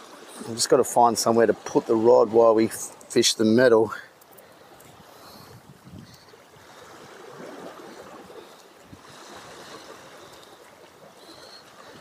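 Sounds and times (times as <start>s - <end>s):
waves lapping against rocks: 0.0s - 12.0s.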